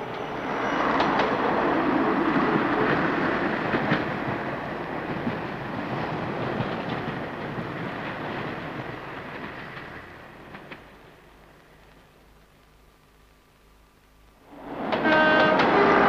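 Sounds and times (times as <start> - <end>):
train wheels clicking over rail joints: 0.0 - 12.0, 14.6 - 16.0
diesel train running along track: 0.0 - 12.1, 14.5 - 16.0.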